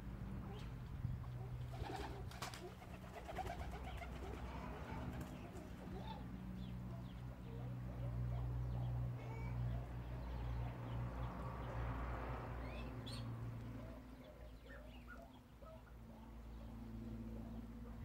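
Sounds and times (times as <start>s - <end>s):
birds calling: 0.4s - 11.8s, 12.6s - 18.0s.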